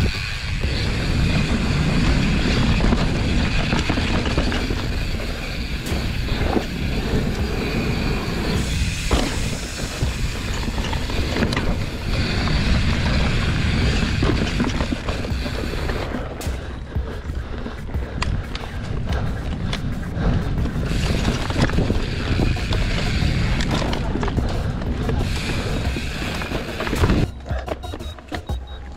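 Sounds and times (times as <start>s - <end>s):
bike rattling: 0.0s - 28.9s
bike tyres rumbling on dirt: 0.0s - 28.9s.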